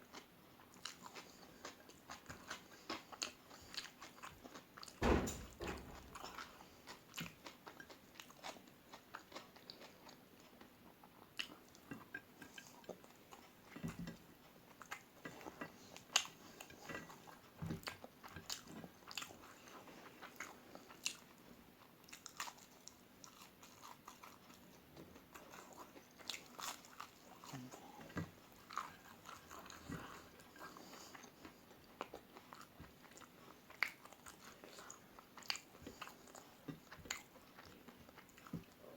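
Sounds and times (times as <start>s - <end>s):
crunchy chewing: 0.0s - 5.0s, 5.9s - 38.9s.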